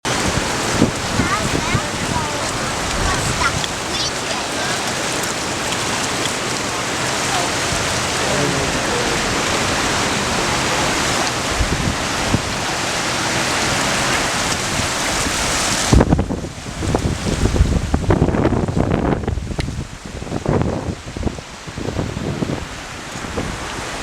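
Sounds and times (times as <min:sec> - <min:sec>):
flooded creek water rushing: 0:00.0 - 0:24.0
heavy rain: 0:00.0 - 0:24.0
wind buffeting microphone: 0:00.1 - 0:24.0.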